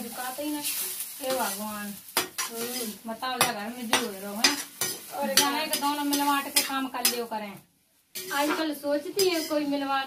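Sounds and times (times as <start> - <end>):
woman talking: 0.0 - 7.6, 8.3 - 10.0
vegetables sizzling: 0.0 - 10.0
metal spatula scraping a pan: 0.6 - 7.4, 8.1 - 10.0.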